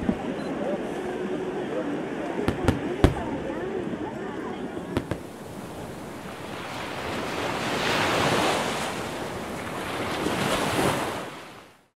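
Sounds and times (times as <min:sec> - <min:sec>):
ocean surf washing onto beach: 0:00.0 - 0:11.8.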